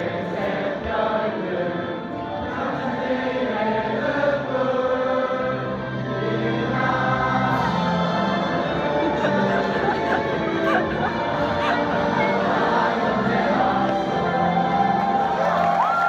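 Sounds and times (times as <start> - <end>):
group of voices singing: 0.0 - 16.0.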